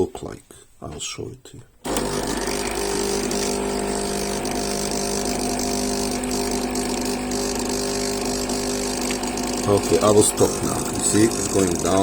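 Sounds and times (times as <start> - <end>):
espresso machine pump buzzing: 1.9 - 12.0.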